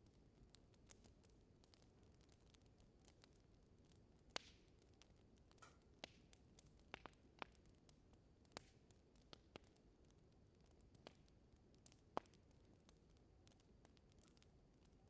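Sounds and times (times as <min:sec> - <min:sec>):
wood crackling in fireplace: 0:00.0 - 0:15.0.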